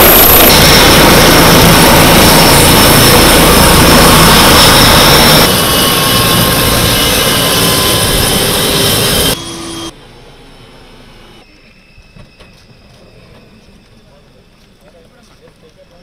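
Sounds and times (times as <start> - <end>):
faint turbine whine: 0.0 - 16.0
helicopter rotor and engine noise: 0.0 - 16.0.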